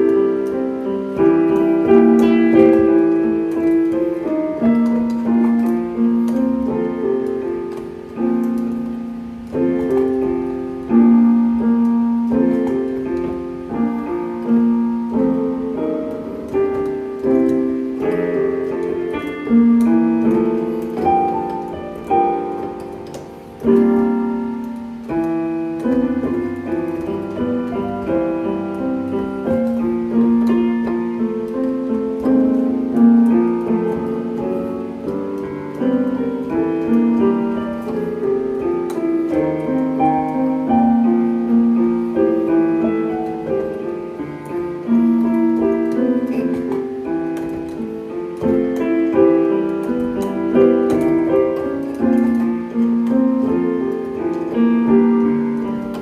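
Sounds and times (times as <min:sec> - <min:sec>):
electronic keyboard piano chords: 0:00.0 - 0:56.0.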